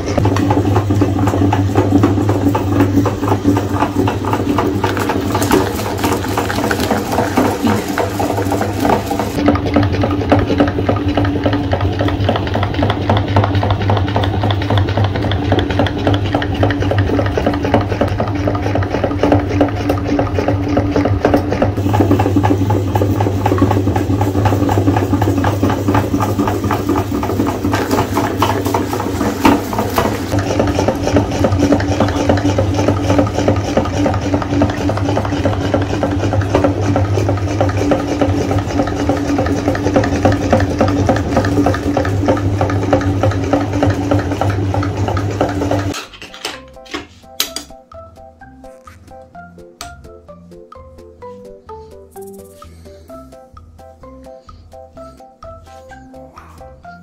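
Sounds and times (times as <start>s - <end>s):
meat grinder running: 0.0s - 46.2s.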